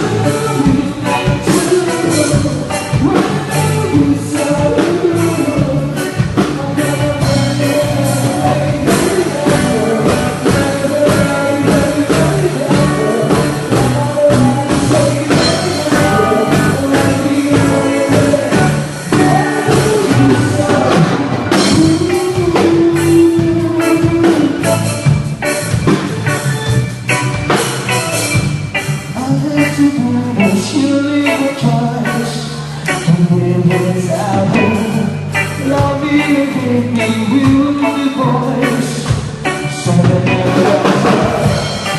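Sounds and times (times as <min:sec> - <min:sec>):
person singing: 0:00.0 - 0:25.2, 0:28.8 - 0:41.9
drum kit: 0:00.0 - 0:41.9
guitar playing: 0:00.0 - 0:41.9.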